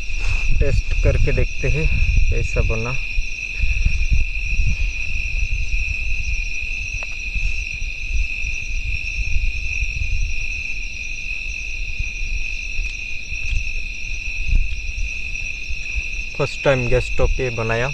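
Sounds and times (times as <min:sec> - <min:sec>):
crickets trilling: 0:00.0 - 0:17.9.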